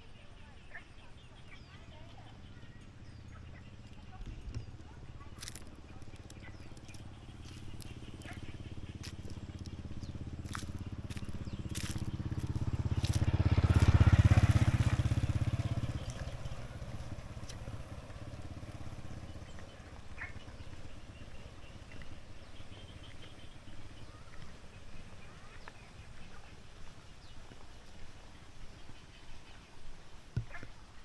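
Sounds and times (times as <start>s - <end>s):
motorbike engine passing: 0.7s - 28.8s.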